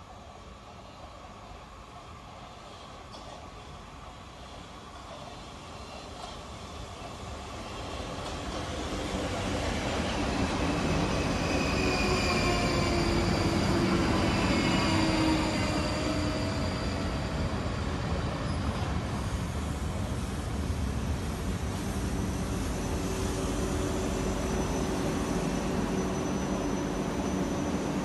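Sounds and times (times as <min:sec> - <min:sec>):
high train whine: 0:00.0 - 0:28.0
train wheels rumbling on rails: 0:04.4 - 0:28.0.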